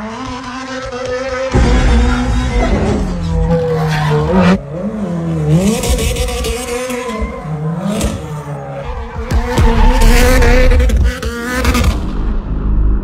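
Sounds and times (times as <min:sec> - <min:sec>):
race car engine revving: 0:00.0 - 0:12.3.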